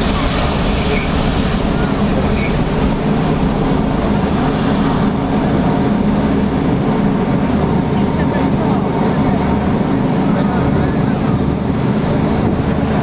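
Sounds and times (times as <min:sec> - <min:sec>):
aircraft engine rumble: 0:00.0 - 0:13.0.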